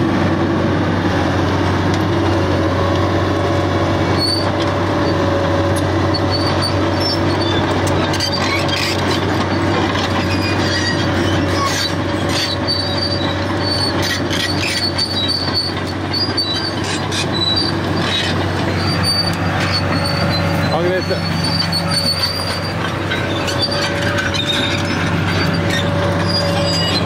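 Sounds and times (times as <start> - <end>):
diesel engine humming: 0.0 - 27.0
steel tracks squealing and clanking: 4.0 - 27.0.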